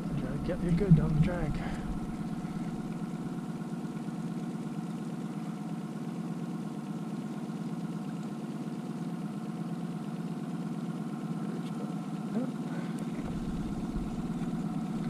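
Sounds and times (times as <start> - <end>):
boat motor idling: 0.0 - 15.0.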